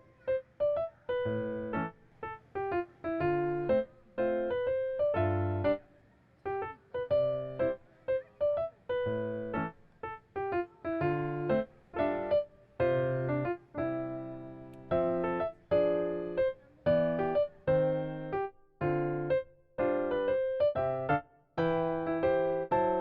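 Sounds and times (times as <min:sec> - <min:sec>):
bouncy electric piano tune: 0:00.0 - 0:05.8, 0:06.4 - 0:23.0.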